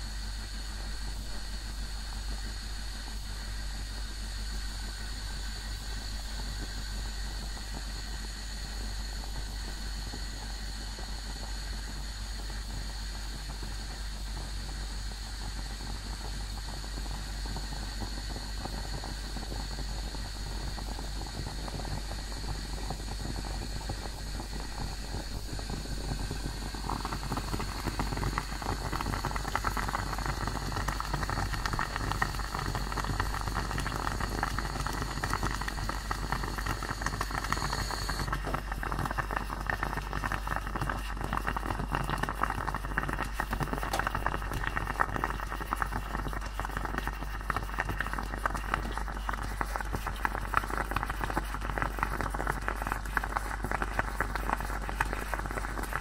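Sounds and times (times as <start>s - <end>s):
coffee gurgling and sputtering: 0.0s - 56.0s.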